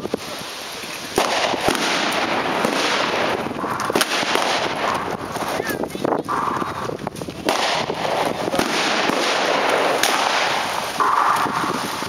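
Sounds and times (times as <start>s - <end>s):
gunfire crackle: 0.9s - 12.0s.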